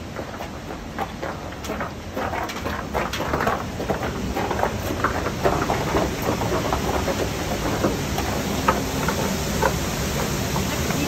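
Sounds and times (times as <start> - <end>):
footsteps on icy gravel: 0.0 - 11.0
steady rushing noise: 0.0 - 11.0
trekking poles tapping: 0.0 - 11.0.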